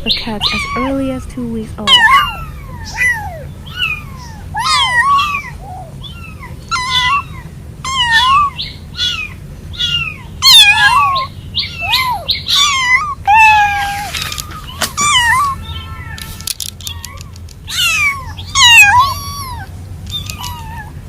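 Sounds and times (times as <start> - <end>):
kittens meowing: 0.0 - 21.0.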